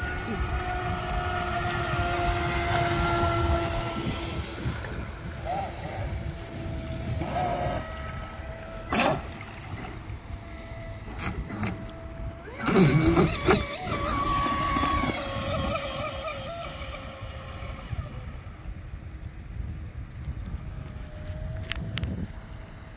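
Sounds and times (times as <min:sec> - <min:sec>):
rc boat electric motor whining: 0:00.0 - 0:19.2, 0:20.3 - 0:22.9
wind rumbling on microphone: 0:00.0 - 0:22.9.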